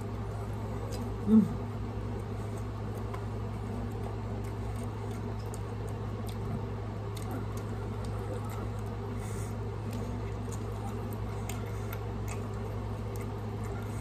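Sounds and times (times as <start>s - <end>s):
chewing food: 0.0s - 14.0s
steady low hum: 0.0s - 14.0s.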